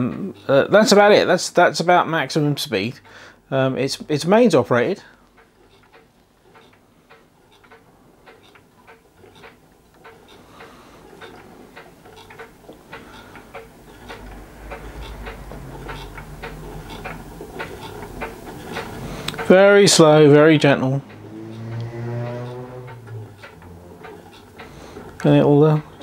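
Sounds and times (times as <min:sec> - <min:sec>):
engine mechanism clicking: 0:00.0 - 0:26.0.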